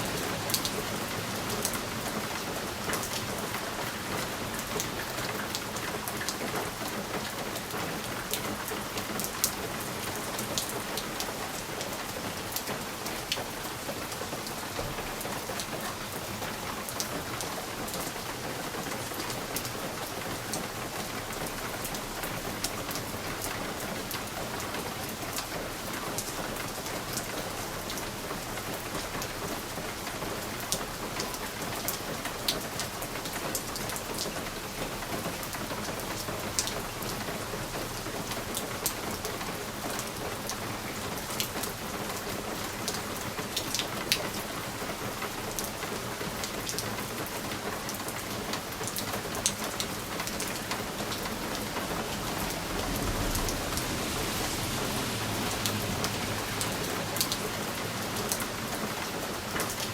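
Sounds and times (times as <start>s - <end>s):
rain pattering on window glass: 0.0s - 59.9s.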